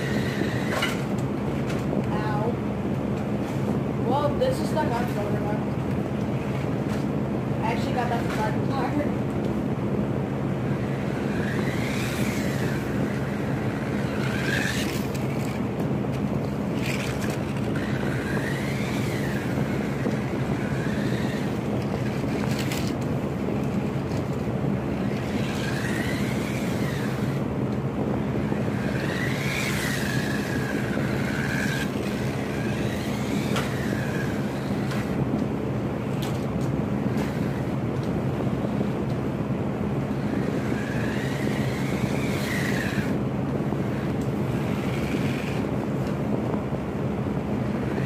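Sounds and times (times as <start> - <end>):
electric motor whining: 0.0 - 48.0
steady low hum: 0.0 - 48.0.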